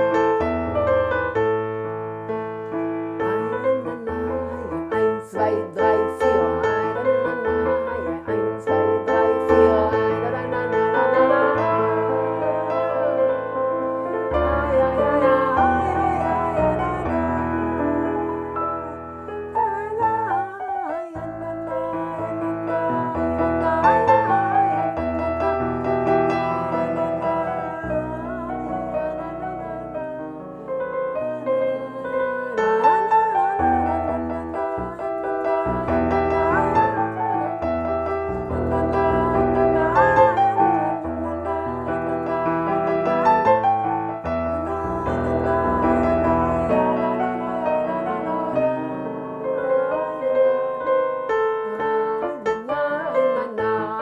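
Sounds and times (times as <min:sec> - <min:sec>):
person singing wordless melody: 0:02.6 - 0:54.0.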